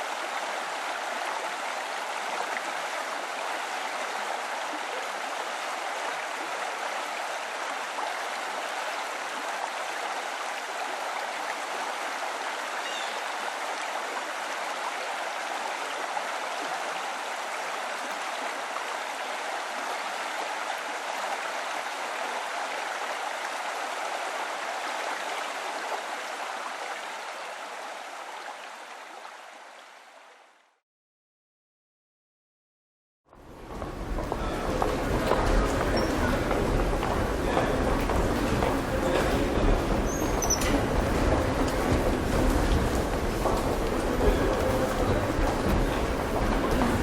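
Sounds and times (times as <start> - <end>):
stream water rushing: 0.0 - 30.6, 33.4 - 47.0.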